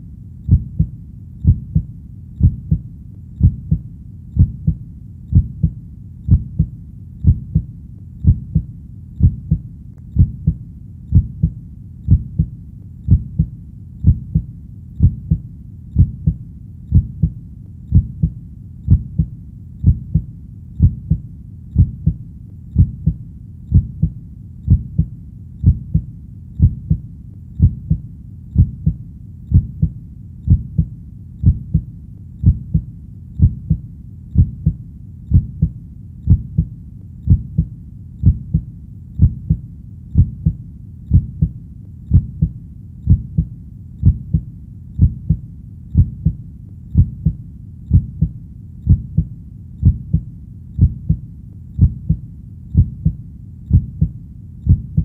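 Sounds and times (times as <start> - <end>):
faint low rumble: 0.0 - 55.0
heartbeat thumps: 0.5 - 55.0.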